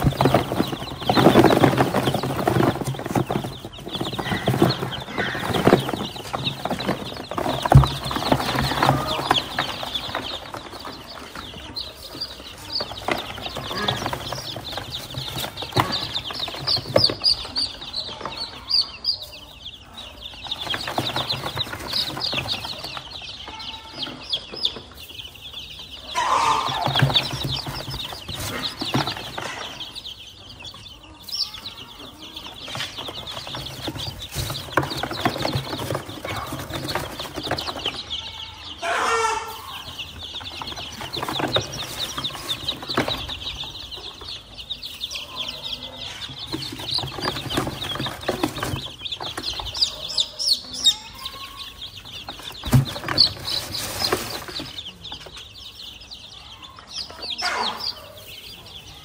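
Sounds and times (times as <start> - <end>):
hands rustling in styrofoam box: 0.0 - 18.6, 20.2 - 23.8, 24.9 - 30.5, 31.4 - 55.7
chicks peeping: 0.0 - 59.0.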